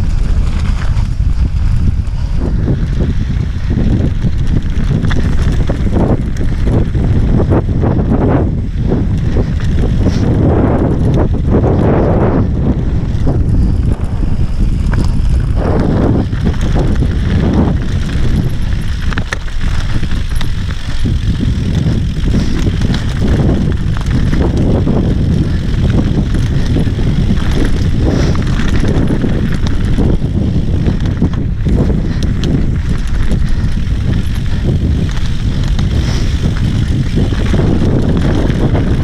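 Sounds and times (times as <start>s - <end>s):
tyres rolling over dirt and rocks: 0.0s - 8.1s, 12.5s - 39.0s
bike clicks and rattles: 0.0s - 39.0s
wind buffeting microphone: 0.0s - 39.0s.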